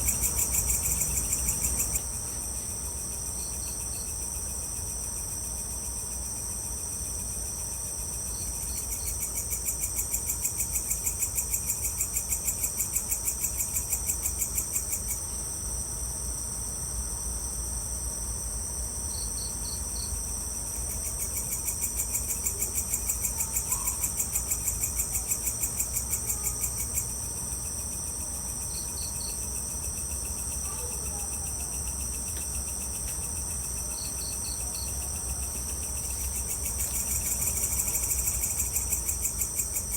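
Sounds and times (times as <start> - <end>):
crickets chirring: 0.0 - 39.9
rapidly pulsing insect call: 0.0 - 39.9.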